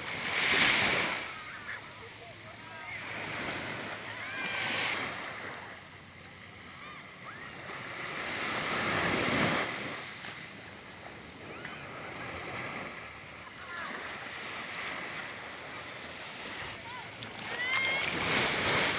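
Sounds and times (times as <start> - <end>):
small waves washing on beach: 0.0 - 18.9.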